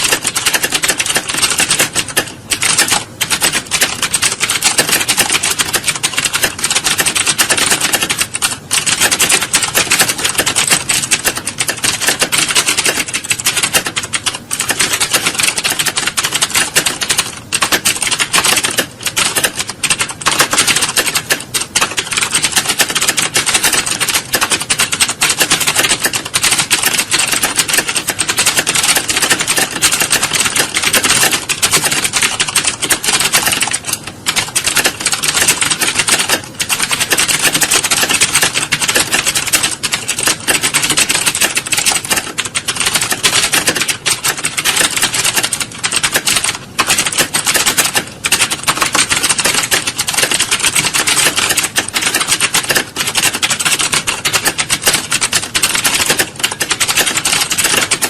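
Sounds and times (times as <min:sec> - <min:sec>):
fast keyboard typing: 0:00.0 - 0:58.0.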